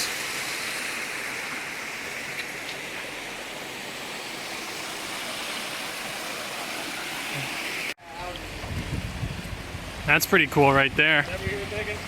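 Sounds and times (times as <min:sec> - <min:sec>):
rushing spring water: 0:00.0 - 0:12.0.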